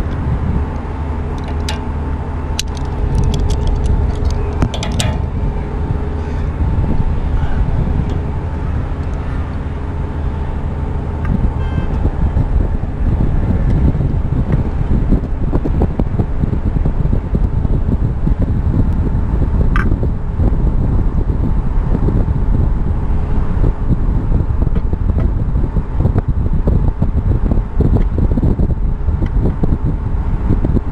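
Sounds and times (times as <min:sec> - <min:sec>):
faint steady hum: 0:00.0 - 0:30.9
wind buffeting microphone: 0:00.0 - 0:30.9.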